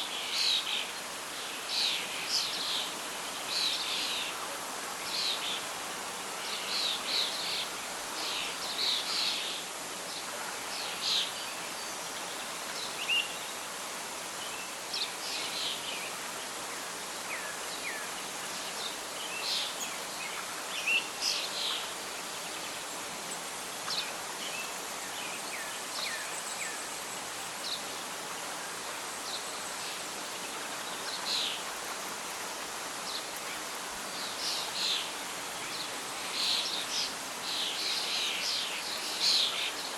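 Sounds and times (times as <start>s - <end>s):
rustling leaves: 0.0s - 39.9s
wild birds chirping: 0.0s - 39.9s
wind: 0.0s - 39.9s.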